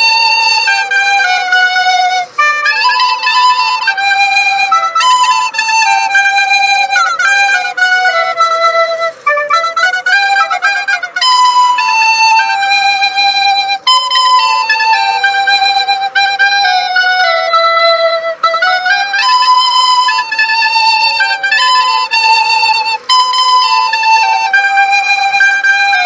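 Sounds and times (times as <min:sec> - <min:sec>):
flute-like melody: 0:00.0 - 0:26.0.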